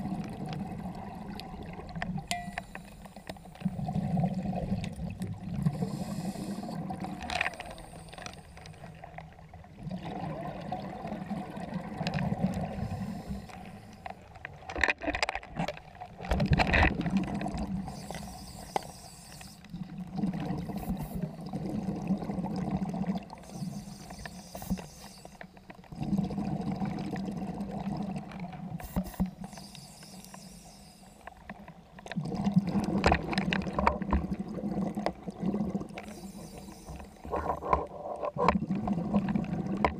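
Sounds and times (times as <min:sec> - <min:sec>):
underwater exhaled bubbles gurgling: 0:00.0 - 0:02.8, 0:03.5 - 0:14.8, 0:15.8 - 0:39.9.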